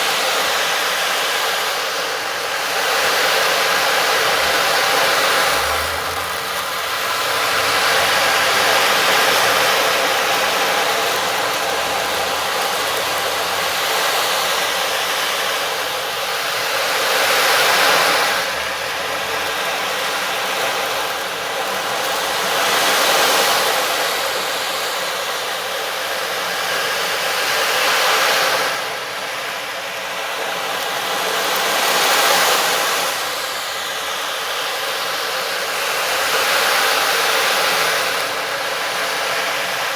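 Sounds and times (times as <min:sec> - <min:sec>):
rushing hiss: 0:00.0 - 0:39.9.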